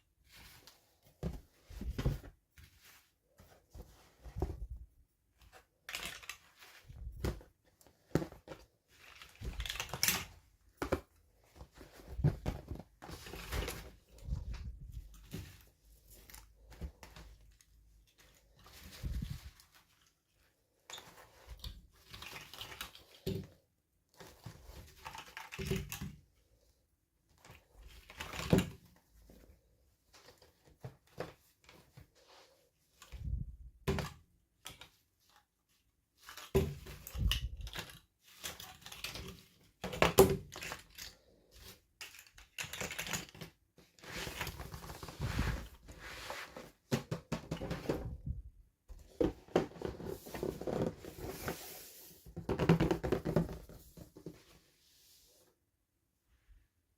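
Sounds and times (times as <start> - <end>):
hands handling plastic toys: 0.0 - 55.6.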